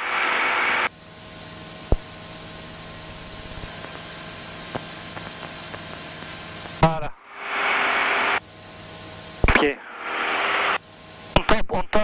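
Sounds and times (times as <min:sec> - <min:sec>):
light aircraft engine drone: 0:00.4 - 0:11.4.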